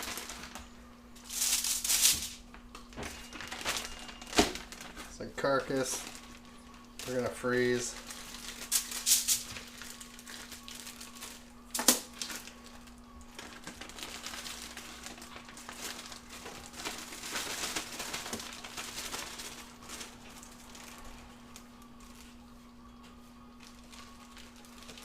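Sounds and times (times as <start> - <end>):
faint steady hum: 0.0 - 25.0
wrapping crinkling and rustling: 0.0 - 25.0.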